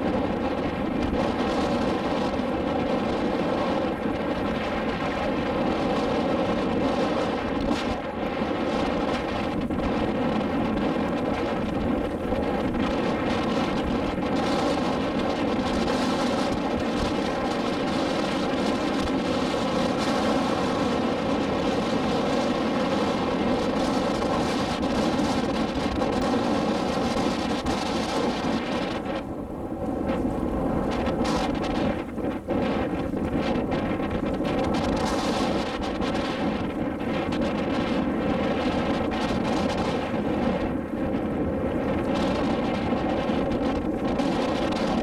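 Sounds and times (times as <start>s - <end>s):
boat engine running: 0.0s - 45.0s
broad rushing noise: 0.0s - 45.0s.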